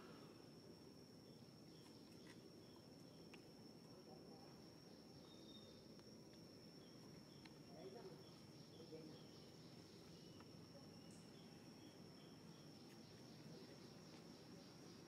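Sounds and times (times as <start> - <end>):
insect chirp: 0.0 - 15.0.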